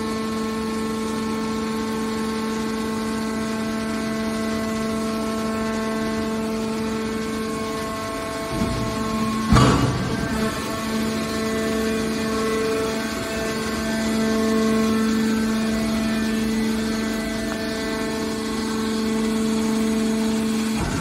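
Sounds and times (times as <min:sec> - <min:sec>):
hydraulic pump hum: 0:00.0 - 0:21.0.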